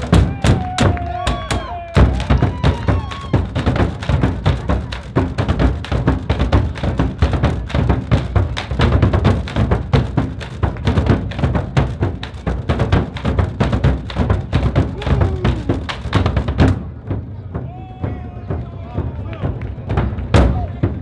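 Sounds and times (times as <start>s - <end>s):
fast drum beat music: 0.0s - 17.2s.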